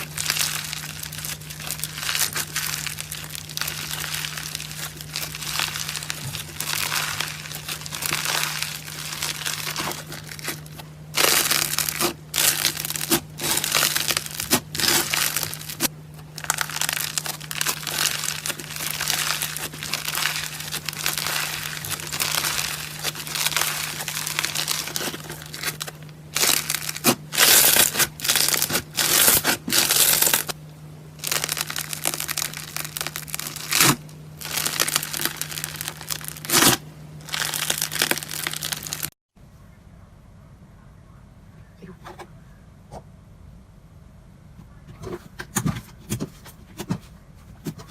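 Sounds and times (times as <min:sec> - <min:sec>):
slime squishing and crackling: 0:00.0 - 0:30.6, 0:31.2 - 0:39.2
faint steady hum: 0:00.0 - 0:47.9.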